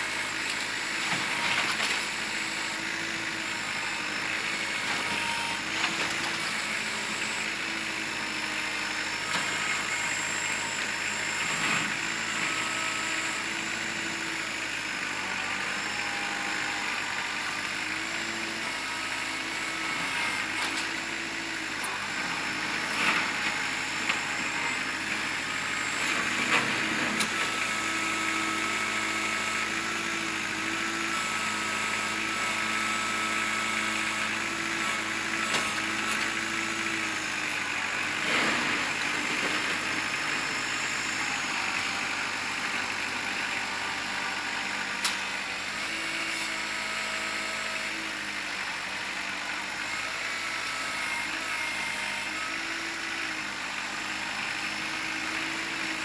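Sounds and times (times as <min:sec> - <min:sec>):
tractor diesel engine running: 0:00.0 - 0:46.1.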